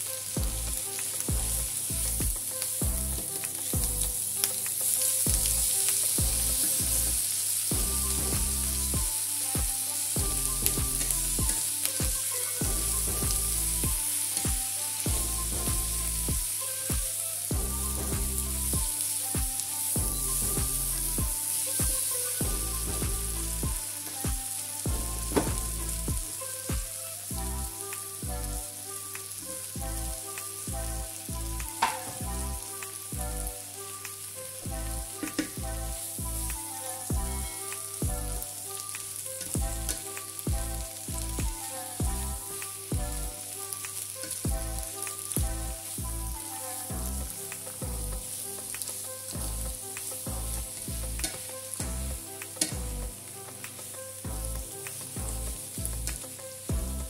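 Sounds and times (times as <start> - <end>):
soft background music: 0.0 - 57.0
vegetables sizzling in a frying pan: 0.0 - 57.0.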